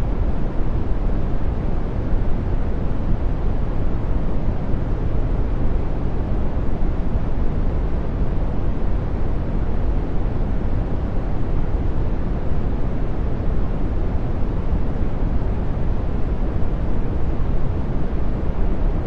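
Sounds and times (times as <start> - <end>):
steady brown noise: 0.0 - 19.0.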